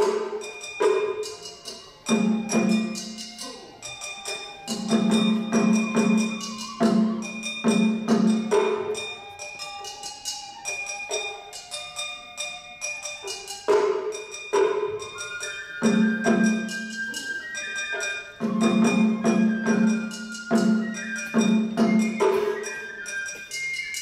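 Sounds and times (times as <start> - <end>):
bamboo flute melody: 0.0 - 24.0.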